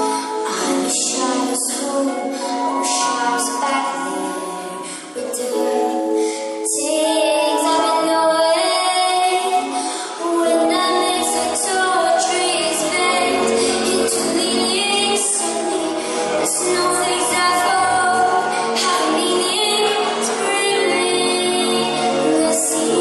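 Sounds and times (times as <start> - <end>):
girl singing into microphone: 0.0 - 23.0
instrumental backing music: 0.0 - 23.0.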